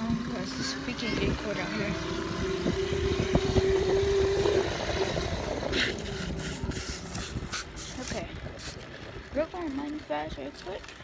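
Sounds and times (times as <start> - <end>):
dirt bike engine running: 0.0 - 10.1.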